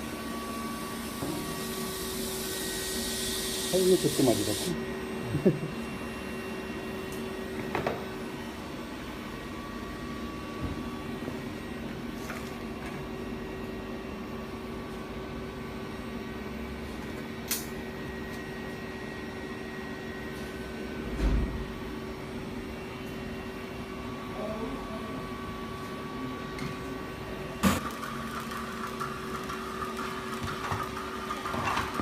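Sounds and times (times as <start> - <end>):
electrical machine hum: 0.0 - 32.0.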